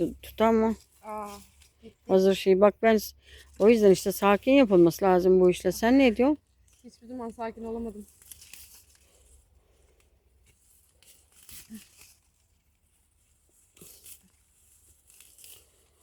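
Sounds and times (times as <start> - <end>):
leaves rustling and crackling: 0.0 - 16.0.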